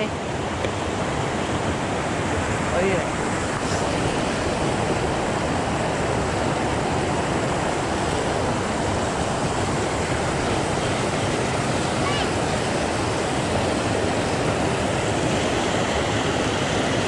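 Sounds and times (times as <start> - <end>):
water rushing over boulders: 0.0 - 17.0.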